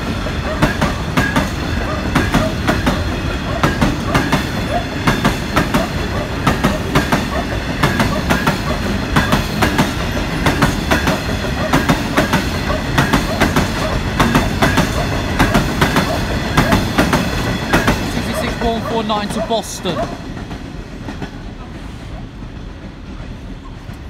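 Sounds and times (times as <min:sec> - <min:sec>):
train wheels clattering over rail joints: 0:00.0 - 0:19.5
continuous train rumble: 0:00.0 - 0:24.0.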